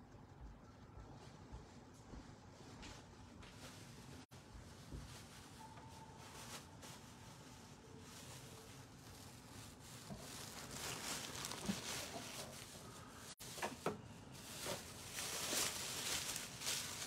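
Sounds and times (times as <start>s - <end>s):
faint rustling: 0.7s - 17.0s.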